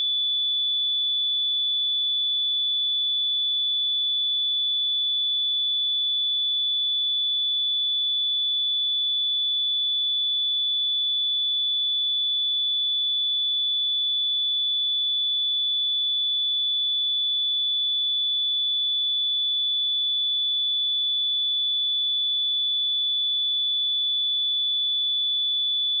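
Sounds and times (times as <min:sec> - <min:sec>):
sine-wave test tone: 0:00.0 - 0:26.0.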